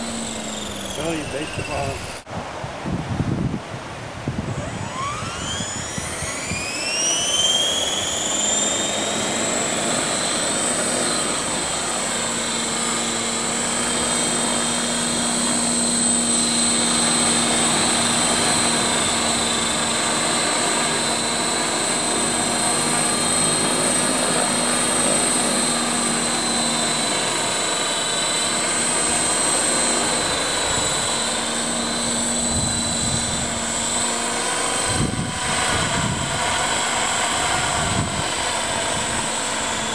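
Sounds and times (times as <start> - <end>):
electric helicopter motor whine: 0.0 - 39.9.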